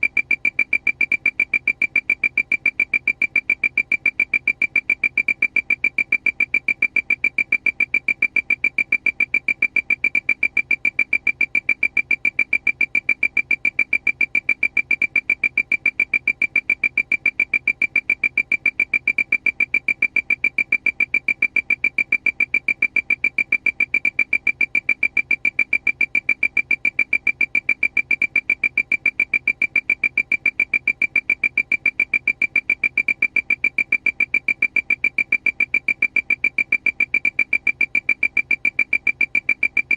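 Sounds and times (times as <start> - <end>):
rapid high alarm beeps: 0.0 - 39.9.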